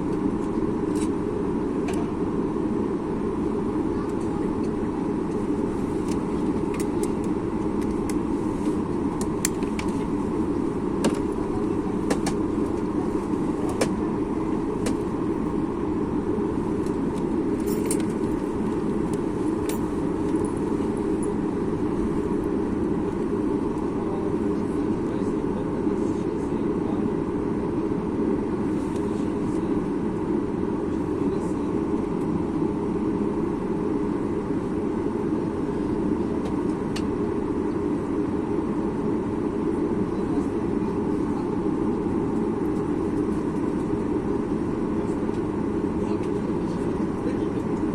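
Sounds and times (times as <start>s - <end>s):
airplane cabin drone: 0.0s - 47.9s.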